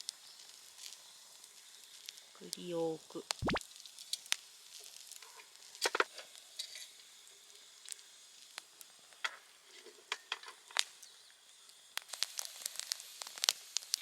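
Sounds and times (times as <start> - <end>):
campfire crackling: 0.0 - 9.6, 10.7 - 14.0
faint hiss: 0.0 - 9.8, 10.6 - 14.0.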